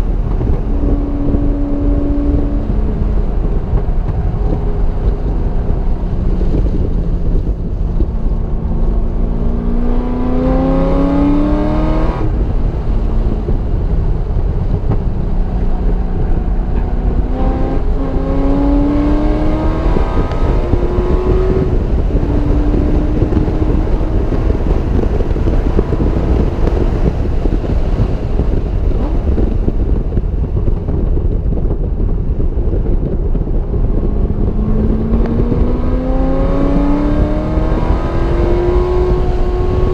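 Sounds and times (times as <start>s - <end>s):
car engine accelerating: 0.0s - 39.9s
road noise: 0.0s - 39.9s
wind noise: 0.0s - 39.9s.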